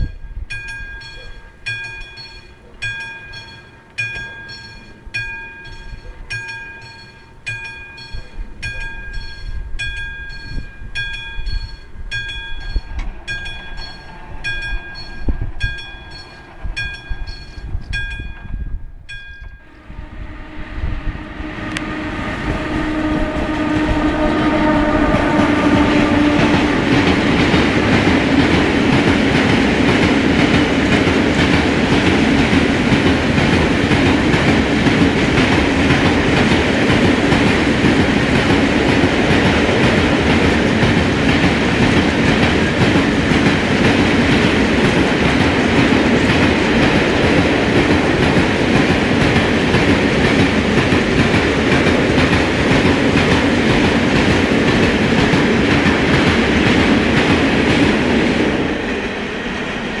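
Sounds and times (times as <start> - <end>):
freight train rumbling past: 0.0 - 60.0.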